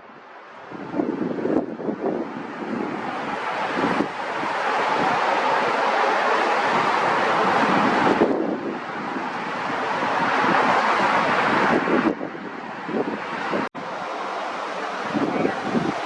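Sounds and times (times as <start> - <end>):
jet engines roaring: 0.0 - 16.0
wind on microphone: 0.0 - 16.0.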